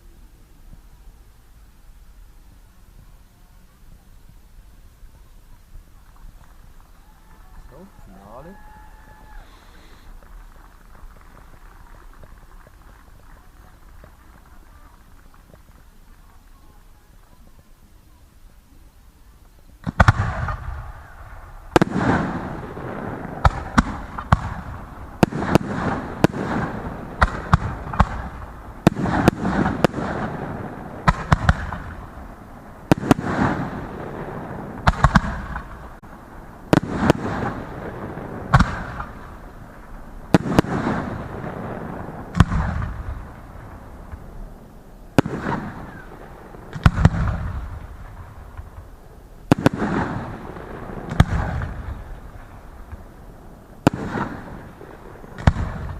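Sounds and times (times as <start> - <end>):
fireworks rumble and crackle: 0.0 - 55.9.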